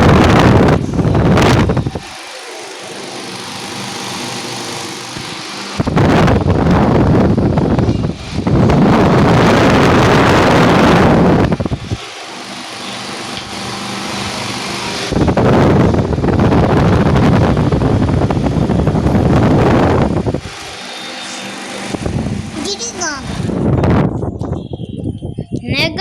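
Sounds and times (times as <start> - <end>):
fan airstream rushing over microphone: 0.0 - 26.0
fan humming tone: 0.0 - 26.0.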